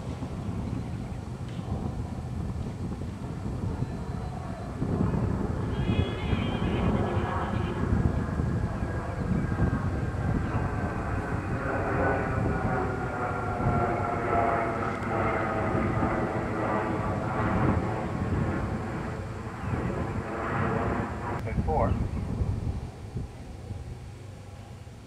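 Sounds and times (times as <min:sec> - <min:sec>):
engine droning past: 0:00.0 - 0:25.0
steady low rumble: 0:00.0 - 0:25.0.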